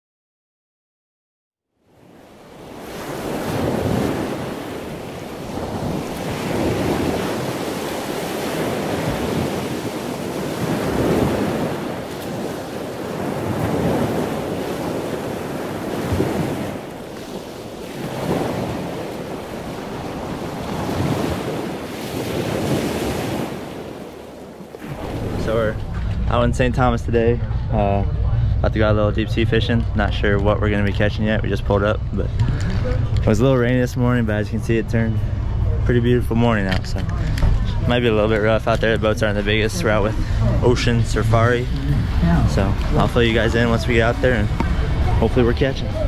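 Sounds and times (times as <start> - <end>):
wind: 1.6 - 46.0
ocean surf: 1.8 - 46.0.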